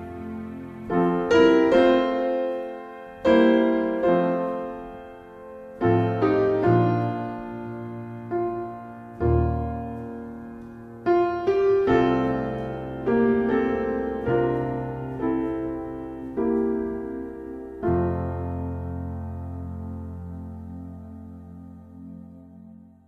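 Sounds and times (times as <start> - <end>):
slow solo piano: 0.0 - 23.0.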